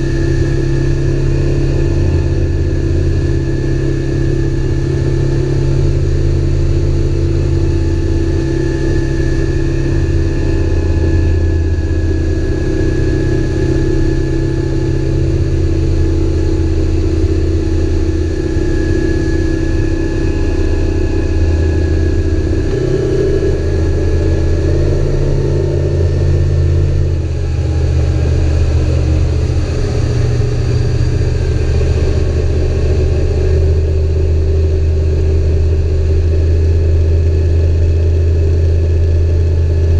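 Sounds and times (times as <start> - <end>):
boat wake rushing: 0.0 - 35.2
outboard motor running: 0.0 - 39.9.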